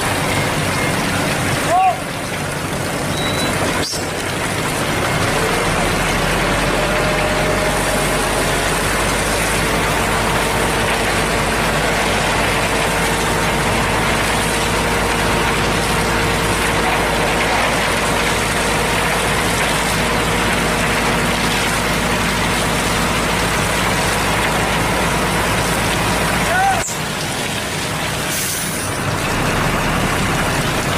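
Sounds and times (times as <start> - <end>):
diesel truck engine running: 0.0 - 30.9.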